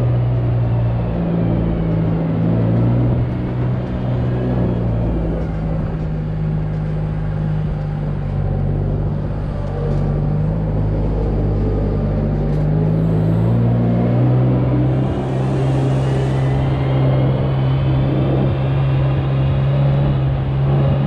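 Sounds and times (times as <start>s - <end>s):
diesel engine running: 0.0s - 21.0s
machine working noise: 0.0s - 21.0s.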